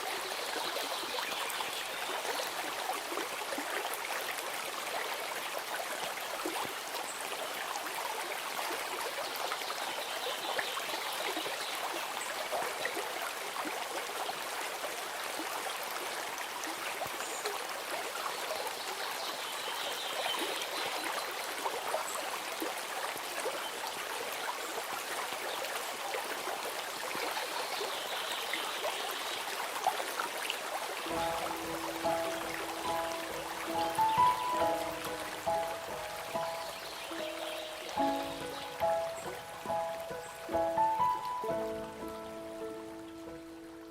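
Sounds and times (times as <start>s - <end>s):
stream water babbling: 0.0s - 43.9s.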